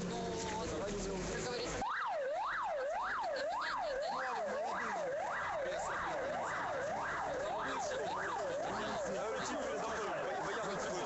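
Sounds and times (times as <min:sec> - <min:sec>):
siren yelping: 0:01.5 - 0:11.0.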